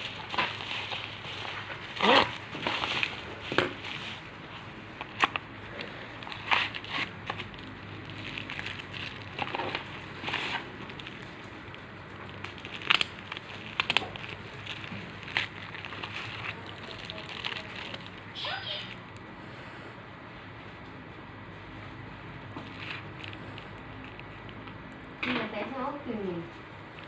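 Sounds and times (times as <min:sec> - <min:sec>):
plastic packaging crinkling: 0:00.0 - 0:19.3, 0:22.4 - 0:27.0.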